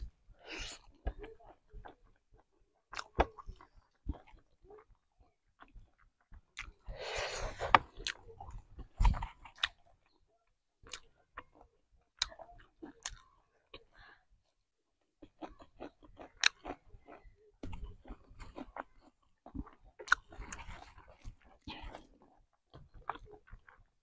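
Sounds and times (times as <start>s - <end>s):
wet chewing and crunching: 0.4s - 24.0s.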